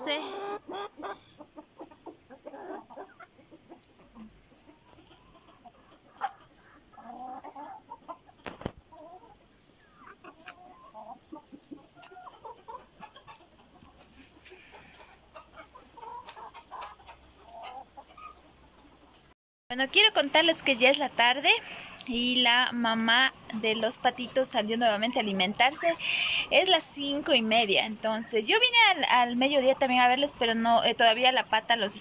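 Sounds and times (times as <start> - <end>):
chickens clucking: 0.0 - 19.3, 20.3 - 32.0.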